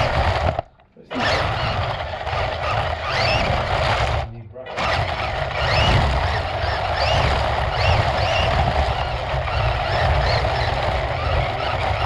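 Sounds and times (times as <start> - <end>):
rc car rumbling over concrete: 0.0 - 12.0.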